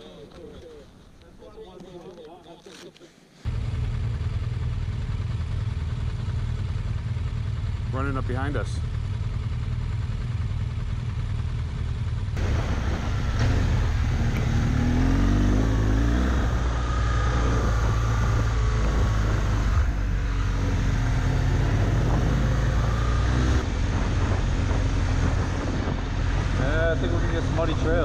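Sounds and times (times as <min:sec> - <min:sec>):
motorcycle engine rumbling: 0:03.5 - 0:28.0.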